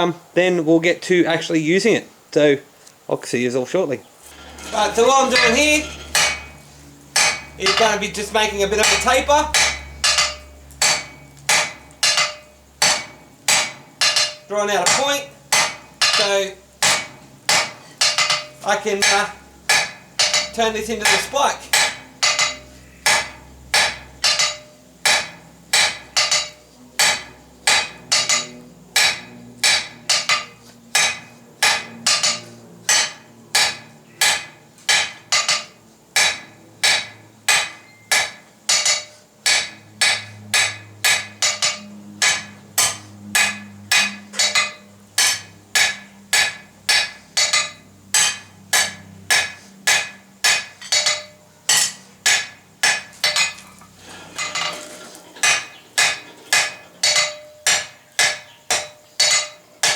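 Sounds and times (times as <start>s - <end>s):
hammer striking steel on anvil: 4.3s - 59.9s.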